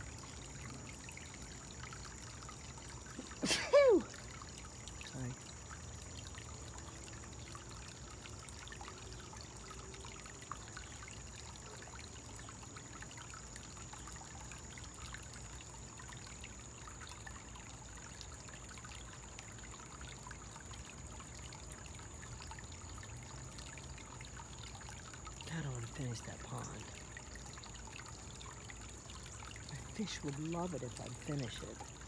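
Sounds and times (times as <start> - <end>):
small waterfall trickling and splashing: 0.0 - 32.0.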